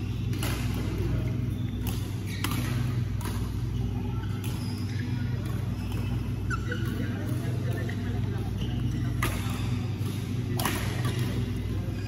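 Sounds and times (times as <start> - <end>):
steady low hum: 0.0 - 12.0
rackets striking shuttlecocks: 0.1 - 12.0.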